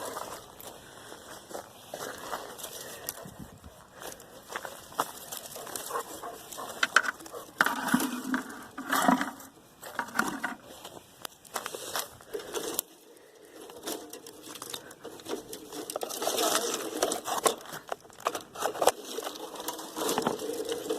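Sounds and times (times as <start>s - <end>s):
dry sticks and leaves crunching: 0.0s - 20.9s.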